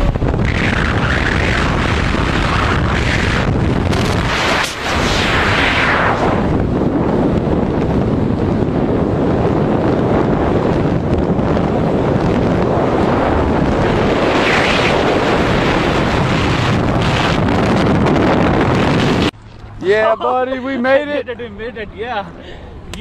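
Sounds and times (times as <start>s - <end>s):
freefall wind buffeting microphone: 0.0s - 23.0s.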